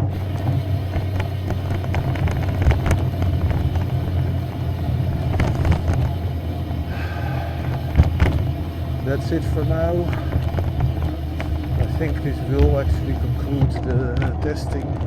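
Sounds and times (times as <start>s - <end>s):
pedal vehicle rumbling on rough road: 0.0s - 15.0s
small irregular clicks and knocks: 0.0s - 15.0s.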